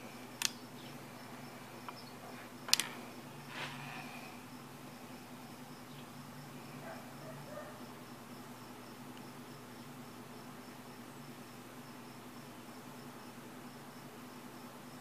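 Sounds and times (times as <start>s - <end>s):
cricket chirping: 0.0s - 15.0s
faint low hum: 0.0s - 15.0s.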